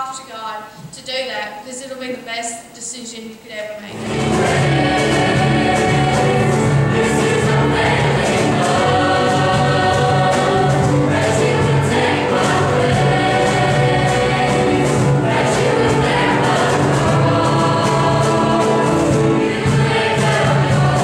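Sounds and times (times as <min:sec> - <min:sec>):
gospel choir singing: 0:03.9 - 0:21.0
musical accompaniment with steady beat: 0:03.9 - 0:21.0.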